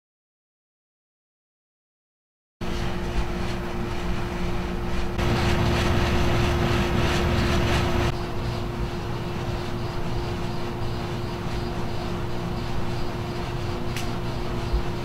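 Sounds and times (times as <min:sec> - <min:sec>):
air conditioner drone: 0:02.6 - 0:15.0
fluorescent light hum: 0:02.6 - 0:15.0.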